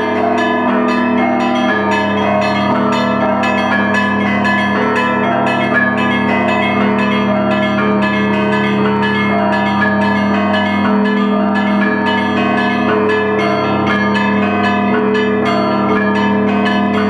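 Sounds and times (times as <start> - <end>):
deep bells ringing: 0.0 - 17.0.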